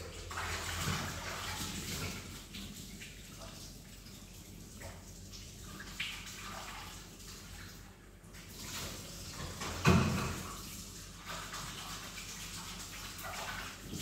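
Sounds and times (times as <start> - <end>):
water running and splashing: 0.0 - 14.0.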